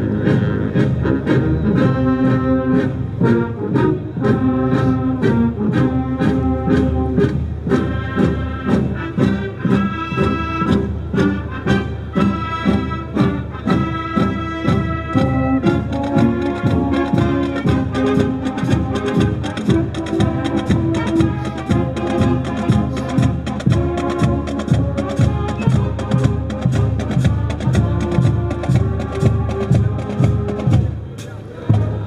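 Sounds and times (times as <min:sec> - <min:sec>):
brass-led music with steady beat: 0:00.0 - 0:32.0.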